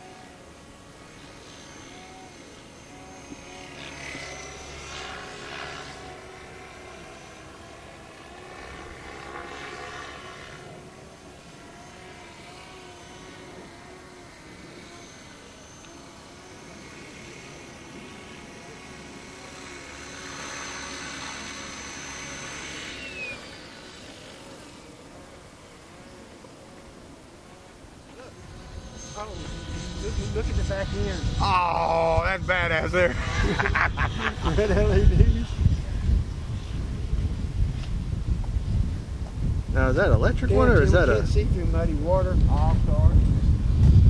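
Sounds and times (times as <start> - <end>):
model helicopter whine: 0.0 - 44.0
rotor blades swooshing: 0.0 - 44.0.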